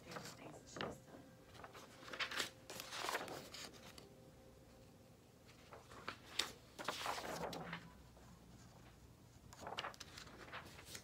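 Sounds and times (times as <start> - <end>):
paper signs rustling: 0.0 - 4.0, 5.5 - 11.0.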